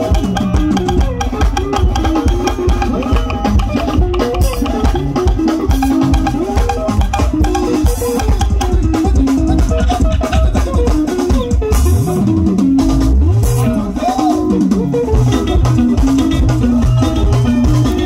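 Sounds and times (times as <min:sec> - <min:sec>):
bass guitar: 0:00.0 - 0:18.0
drum kit beat: 0:00.0 - 0:18.0
electric guitar lines: 0:00.0 - 0:18.0.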